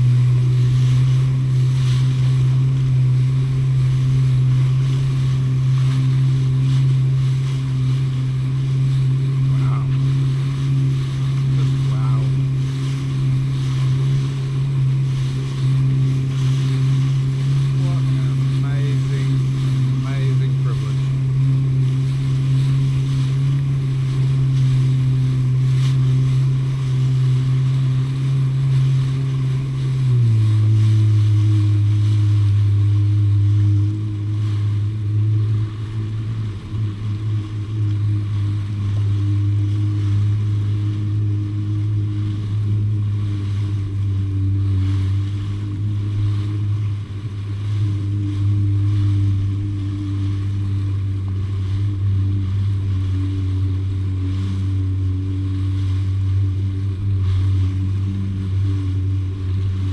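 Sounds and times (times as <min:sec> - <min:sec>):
jet ski engine running: 0:00.0 - 0:59.9
rush of spray and wind: 0:00.0 - 0:59.9.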